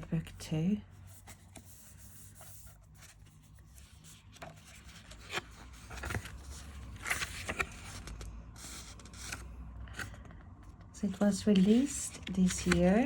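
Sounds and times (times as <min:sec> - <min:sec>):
book pages rustling: 0:01.0 - 0:13.0.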